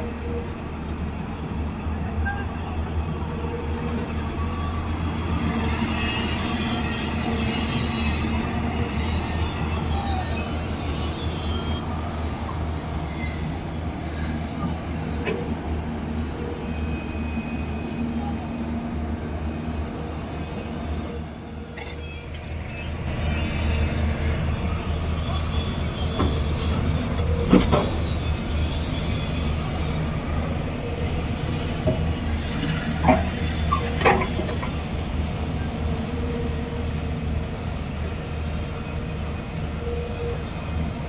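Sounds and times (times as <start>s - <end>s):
excavator diesel engines: 0.0s - 41.0s.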